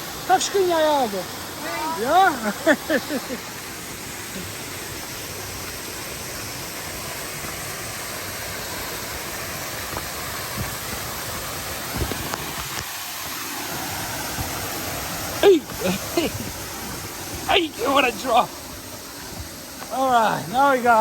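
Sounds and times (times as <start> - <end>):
waterfall pouring into a pool: 0.0 - 21.0.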